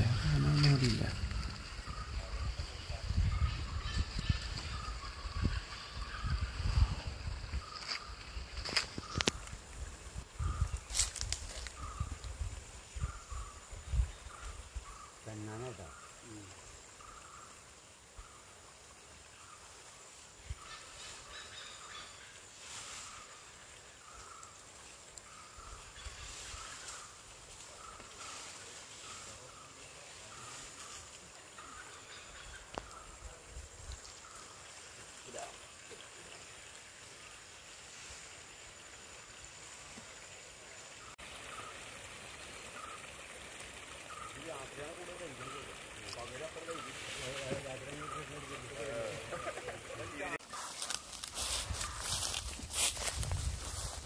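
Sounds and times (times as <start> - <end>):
forest ambience hiss: 0.0 - 54.0.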